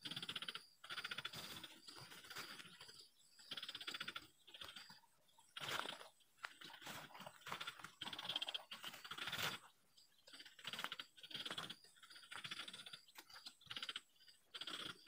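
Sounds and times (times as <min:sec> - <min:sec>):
bird rattling croaking calls: 0:00.0 - 0:15.0.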